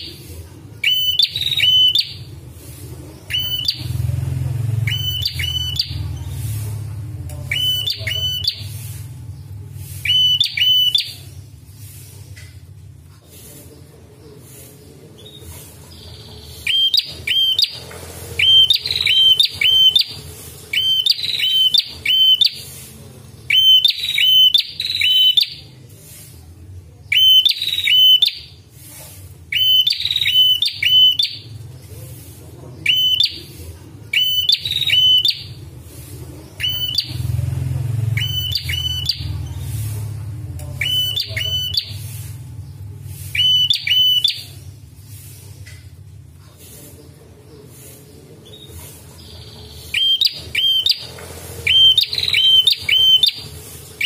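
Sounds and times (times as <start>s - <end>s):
bird chirping: 0.8s - 12.5s, 14.2s - 25.8s, 27.1s - 28.5s, 29.5s - 32.2s, 32.8s - 35.6s, 36.3s - 45.7s, 46.7s - 54.0s.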